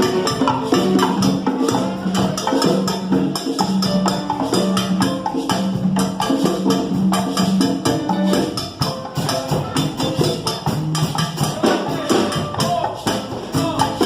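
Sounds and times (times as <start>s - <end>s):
salsa music: 0.0s - 14.0s.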